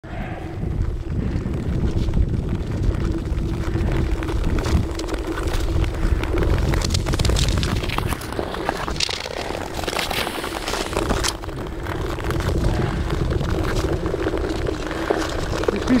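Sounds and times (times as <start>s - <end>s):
wind buffeting microphone: 0.0s - 16.0s
ice skate blades scraping ice: 3.1s - 16.0s.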